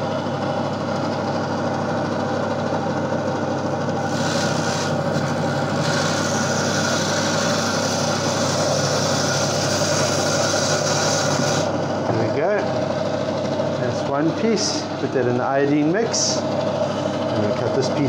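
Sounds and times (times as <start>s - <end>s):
bandsaw running: 3.4s - 18.0s.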